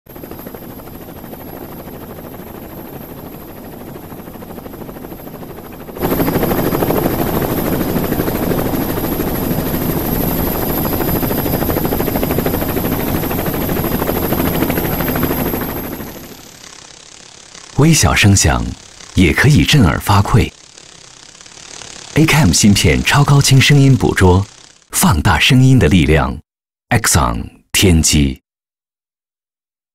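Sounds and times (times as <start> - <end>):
rapidly pulsing whirring: 0.1 - 25.3.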